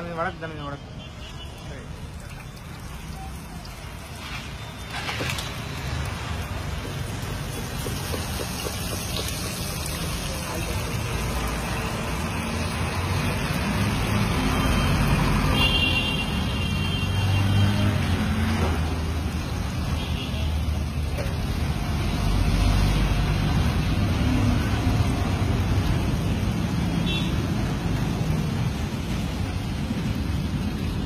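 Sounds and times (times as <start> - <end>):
road traffic rumble: 0.0 - 31.0
fritters deep-frying in oil: 1.4 - 31.0.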